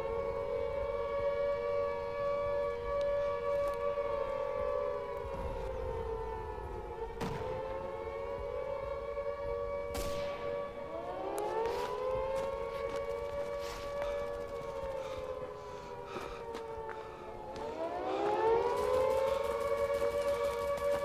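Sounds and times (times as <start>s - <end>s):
air-raid siren wailing: 0.0s - 21.0s.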